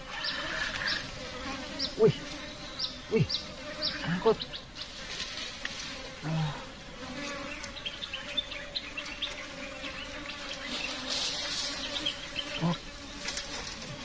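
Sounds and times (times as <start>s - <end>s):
insect buzzing hum: 0.0s - 14.0s.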